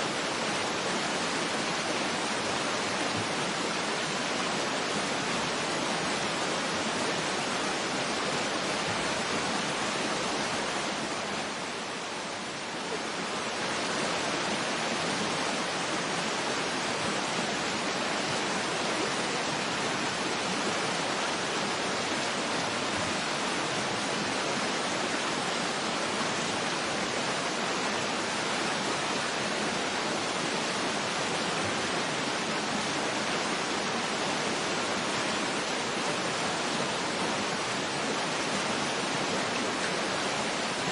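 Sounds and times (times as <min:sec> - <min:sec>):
waterfall rushing water: 0:00.0 - 0:40.9.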